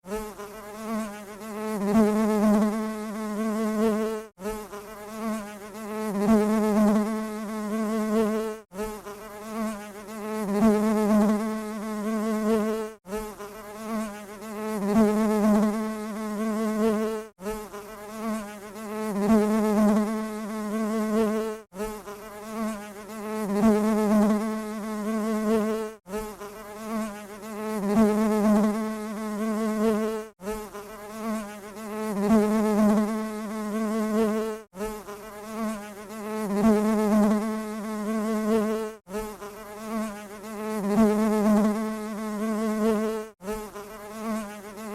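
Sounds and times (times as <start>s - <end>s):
honey bee buzzing: 0.0s - 44.9s.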